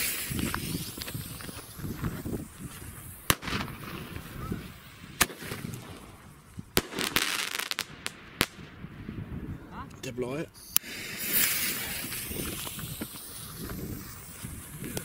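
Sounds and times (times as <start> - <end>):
firework sharp cracks: 0.0 - 9.2, 10.6 - 15.0.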